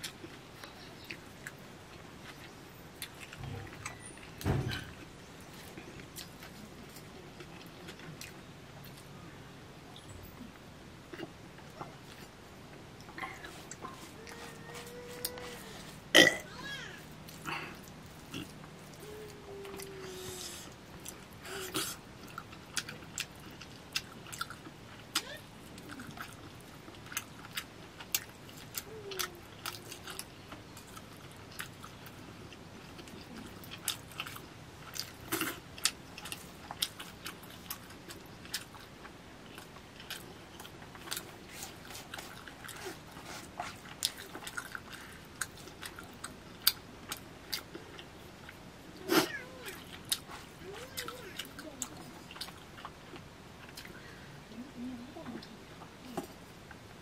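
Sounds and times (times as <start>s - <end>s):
chewing and lip smacking: 0.0s - 9.1s, 11.1s - 12.4s, 17.0s - 54.2s.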